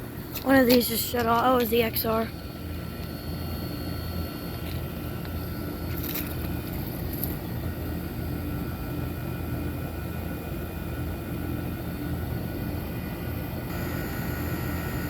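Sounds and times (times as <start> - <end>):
air conditioner units humming: 0.0 - 15.0.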